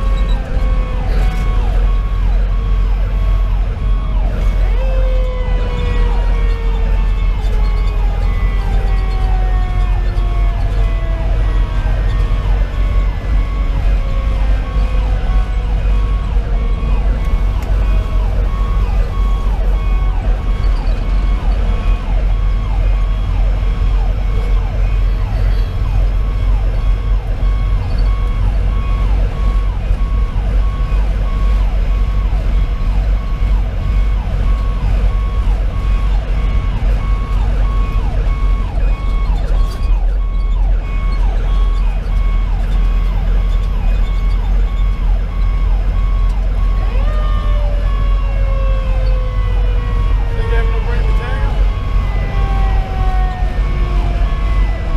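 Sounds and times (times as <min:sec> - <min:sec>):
diesel engine and road rumble: 0:00.0 - 0:54.9
rapidly repeating siren tone: 0:00.0 - 0:54.9
siren falling in pitch: 0:00.0 - 0:54.9.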